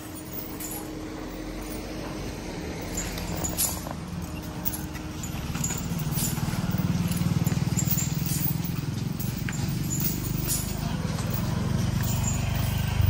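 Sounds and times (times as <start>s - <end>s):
leg chains clinking: 0.0s - 13.0s.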